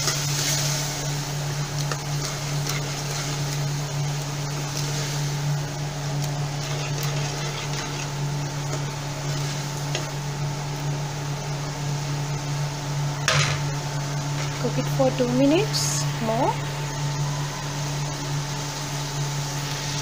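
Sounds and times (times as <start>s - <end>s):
food sizzling in a pan: 0.0s - 20.0s
steady low hum: 0.0s - 20.0s.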